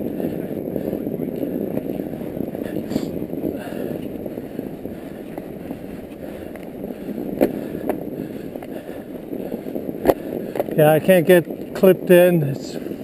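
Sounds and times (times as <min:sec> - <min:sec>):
bike rattling: 0:00.0 - 0:13.0
bike tyres rumbling in snow: 0:00.0 - 0:13.0.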